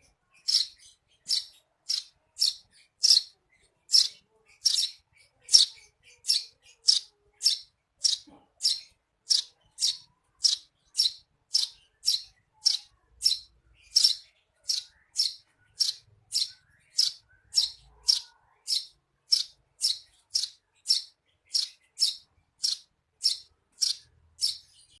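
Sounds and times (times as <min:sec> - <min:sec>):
sparrow chirping: 0:00.0 - 0:25.0.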